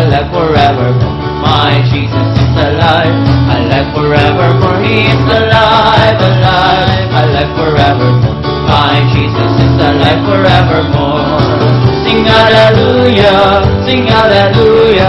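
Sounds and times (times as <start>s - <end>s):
person singing praise song: 0.0s - 15.0s
worship band music: 0.0s - 15.0s.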